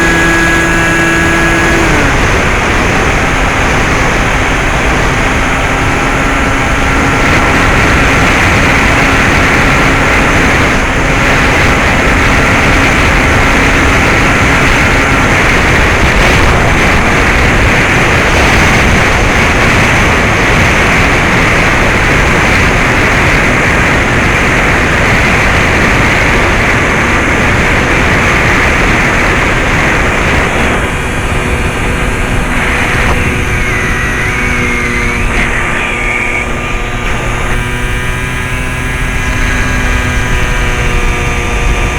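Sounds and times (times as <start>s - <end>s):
electric motor and propeller drone: 0.0s - 41.9s
wind noise on microphone: 0.0s - 41.9s.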